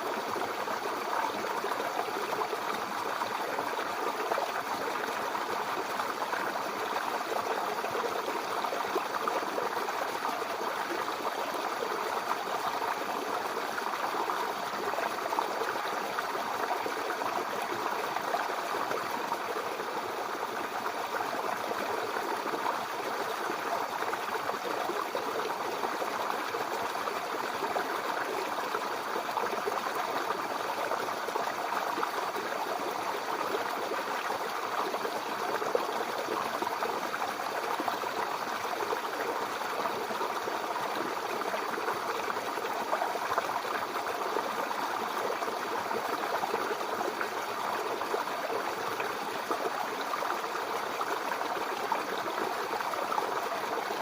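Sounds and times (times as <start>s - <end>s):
brook water burbling over stones: 0.0s - 54.0s.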